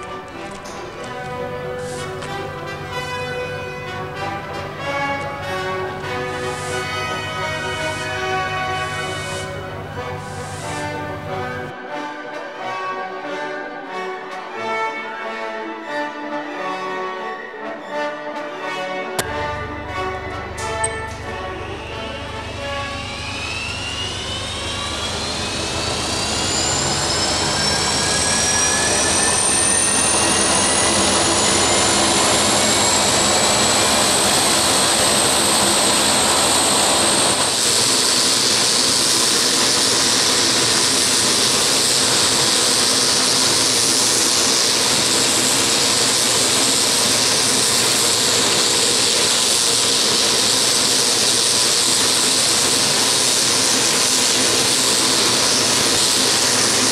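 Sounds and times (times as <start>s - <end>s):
engine hissing rush: 0.0s - 11.7s, 19.2s - 56.9s
turbine engine whine: 0.0s - 11.8s, 19.2s - 56.9s.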